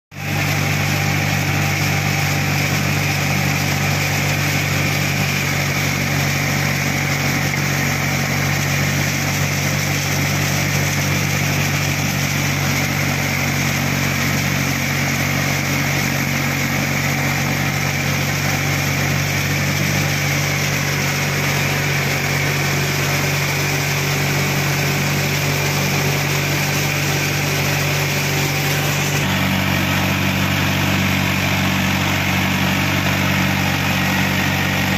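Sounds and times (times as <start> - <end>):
tiller blades churning soil: 0.1 - 34.9
tractor diesel engine running: 0.1 - 34.9.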